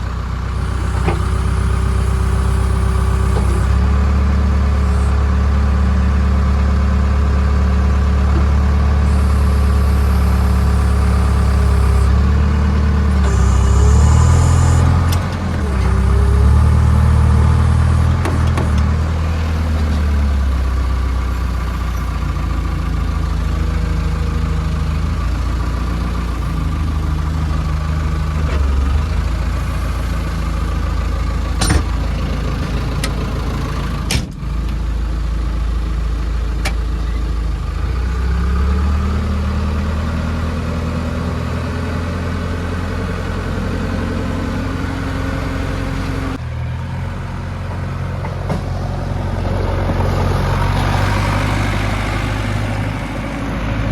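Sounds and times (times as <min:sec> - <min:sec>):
diesel engine running under load: 0:00.0 - 0:53.9.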